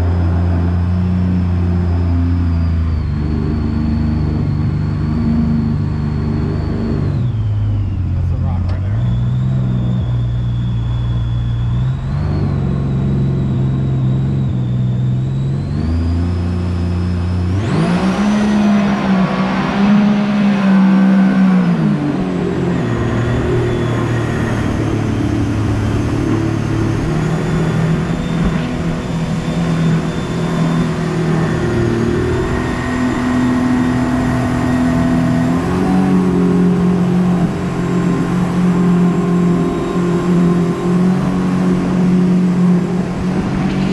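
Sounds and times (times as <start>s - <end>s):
jet boat engine revving: 0.0s - 43.9s.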